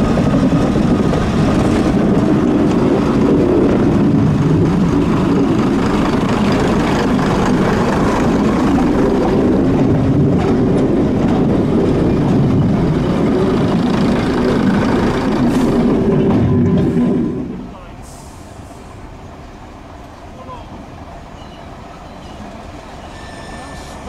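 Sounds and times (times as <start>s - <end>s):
diesel train engines running: 0.0s - 24.0s
train wheels rumbling on track: 0.0s - 24.0s.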